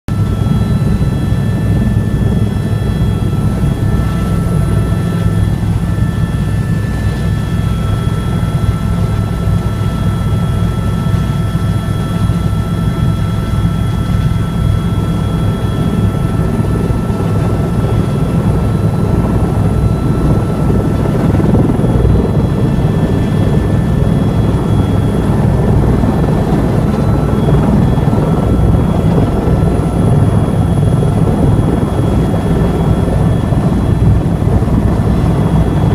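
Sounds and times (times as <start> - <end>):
helicopter rotor and engine drone: 0.1 - 35.9.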